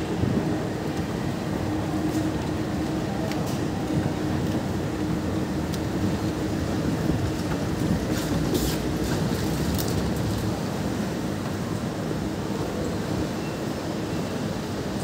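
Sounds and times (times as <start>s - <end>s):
low rumble of building and crowd: 0.0s - 15.0s.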